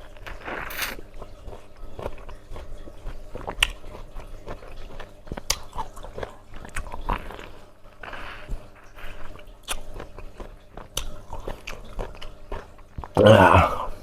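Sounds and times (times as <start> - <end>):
person chewing wet smacks: 0.0 - 14.0.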